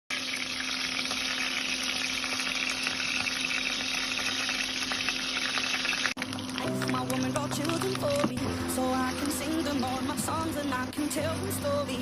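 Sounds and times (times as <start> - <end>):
food sizzling in oil: 0.1 - 11.8.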